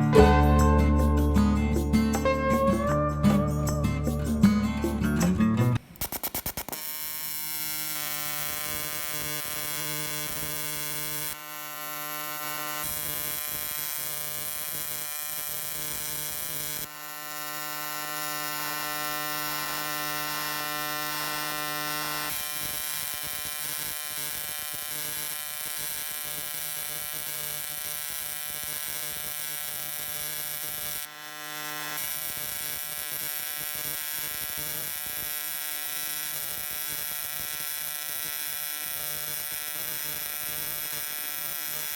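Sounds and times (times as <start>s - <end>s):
welding arc buzz: 5.8s - 41.9s.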